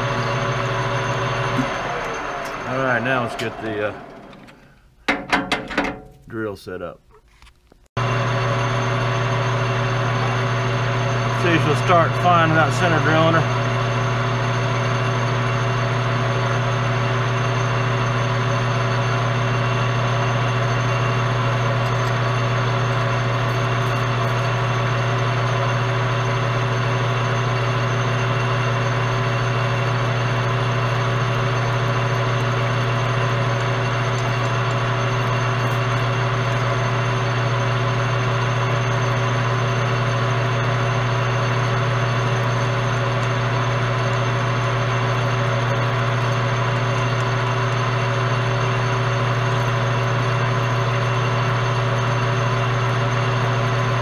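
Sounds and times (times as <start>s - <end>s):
drill boring into spinning metal: 0.0s - 4.6s, 8.0s - 54.0s
metal lathe humming: 0.0s - 6.0s, 8.0s - 54.0s.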